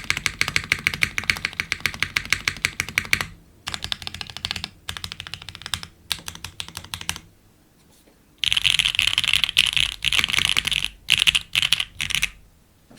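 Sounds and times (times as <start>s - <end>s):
mechanical keyboard typing: 0.0s - 7.3s, 8.4s - 12.4s.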